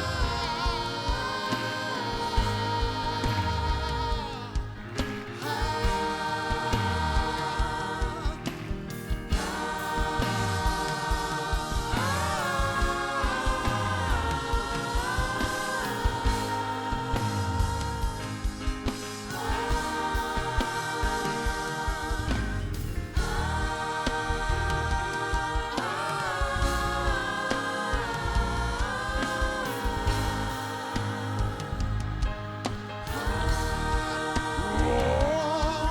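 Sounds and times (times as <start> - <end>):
band with steady beat: 0.0 - 35.9
group of voices singing: 0.0 - 35.9.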